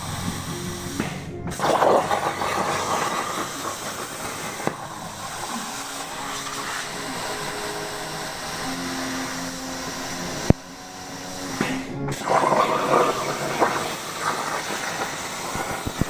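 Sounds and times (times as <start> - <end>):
machine hissing rushing noise: 0.0 - 16.0.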